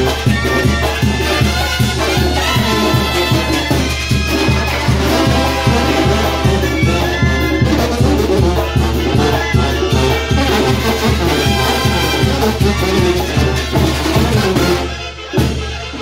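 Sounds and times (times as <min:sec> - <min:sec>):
sousaphone bass line: 0:00.0 - 0:15.6
brass band playing: 0:00.0 - 0:16.0
conga and drum kit beat: 0:00.0 - 0:16.0
trumpets and trombones melody: 0:00.0 - 0:16.0.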